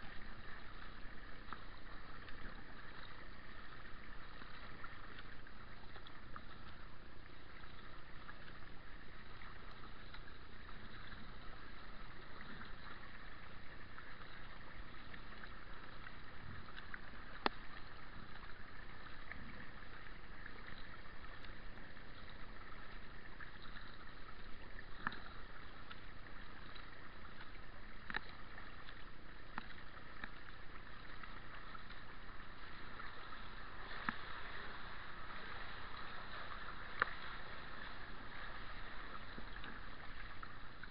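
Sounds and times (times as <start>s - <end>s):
paddle splashing water: 0.0s - 40.9s.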